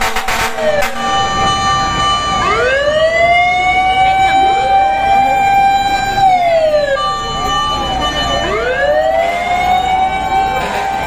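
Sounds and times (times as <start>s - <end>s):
fire truck siren: 0.0s - 11.0s
faint siren wails: 0.2s - 11.0s.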